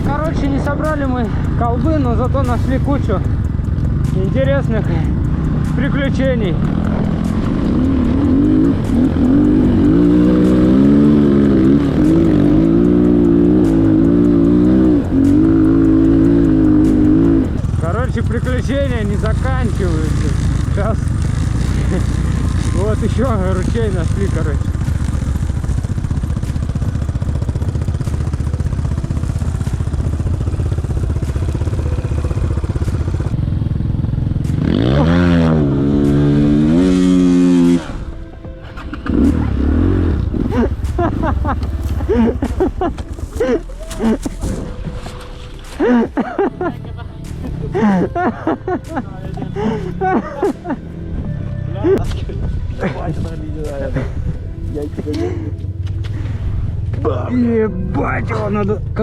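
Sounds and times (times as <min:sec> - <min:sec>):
motorcycle engine under throttle: 0:00.0 - 0:46.6, 0:53.1 - 0:59.0.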